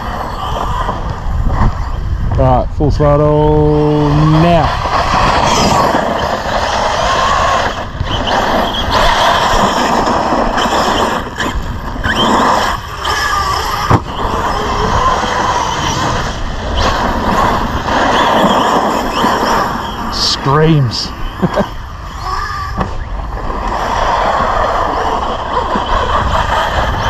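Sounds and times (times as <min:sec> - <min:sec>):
rc truck motor and tyres on dirt: 0:00.0 - 0:27.0.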